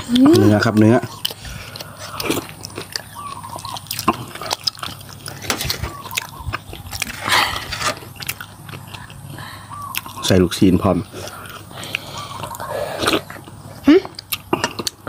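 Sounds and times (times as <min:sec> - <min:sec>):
chewing and biting food: 0:00.0 - 0:15.0.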